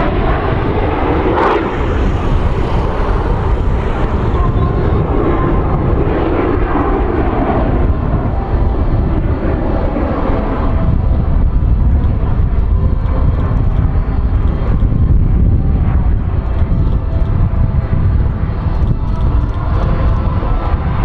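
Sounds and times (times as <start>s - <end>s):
jet engines in flight: 0.0s - 21.0s.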